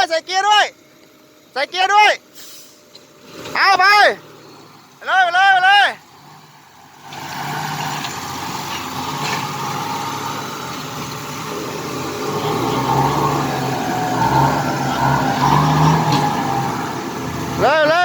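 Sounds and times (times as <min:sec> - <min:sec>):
car engine revving: 0:03.1 - 0:18.0.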